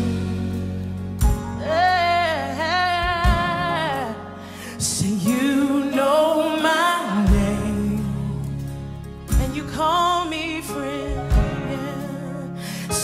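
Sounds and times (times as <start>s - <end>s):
instrumental backing: 0.0s - 13.0s.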